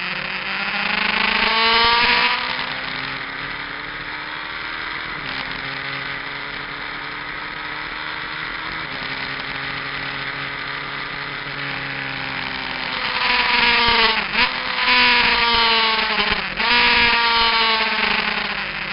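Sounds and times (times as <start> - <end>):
motorcycle engine revving: 0.0 - 18.9.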